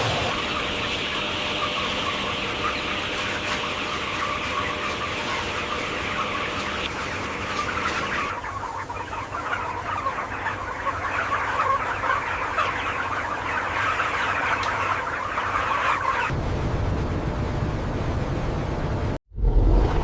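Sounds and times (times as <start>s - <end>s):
chicks cheeping and clucking: 0.0s - 16.3s.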